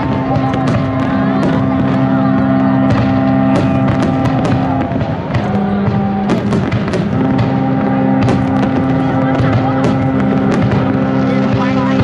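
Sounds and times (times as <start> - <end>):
fireworks cracking and popping: 0.0 - 12.0
music of sustained chords: 0.0 - 12.0.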